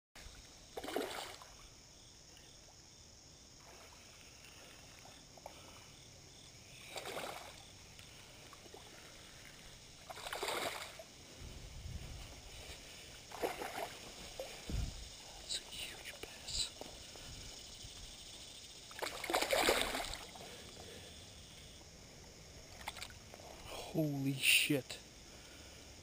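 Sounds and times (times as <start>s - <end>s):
water swishing around a boat: 0.2s - 2.7s, 3.4s - 23.8s
faint steady hiss: 0.2s - 26.0s.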